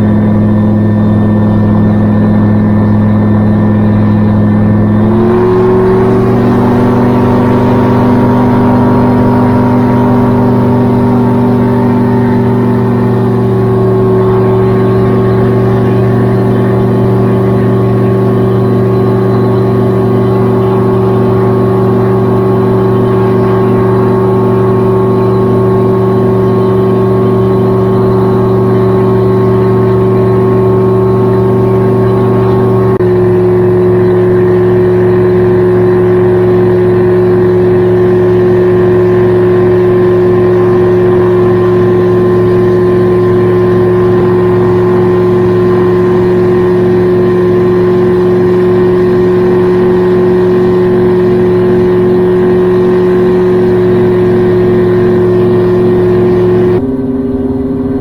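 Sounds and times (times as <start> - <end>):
gyrocopter engine and propeller drone: 0.0 - 58.0.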